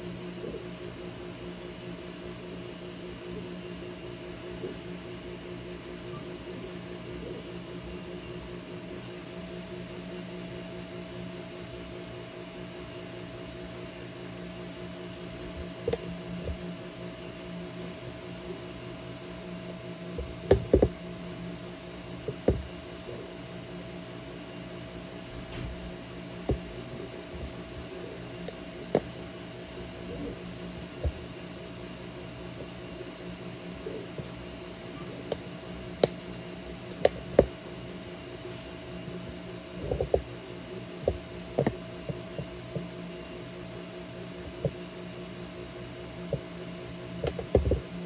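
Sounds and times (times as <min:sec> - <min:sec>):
three-d printers humming: 0:00.0 - 0:48.0.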